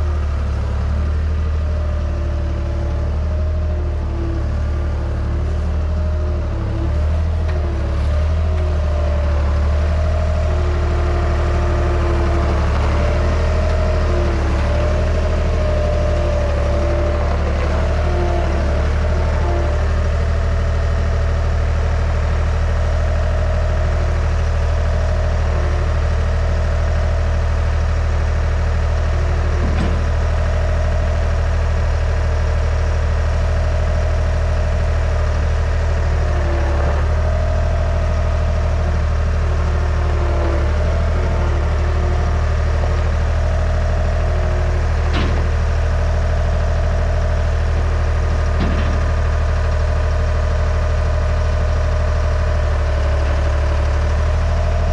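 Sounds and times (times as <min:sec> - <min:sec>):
skid steer engine idling: 0:00.0 - 0:54.9.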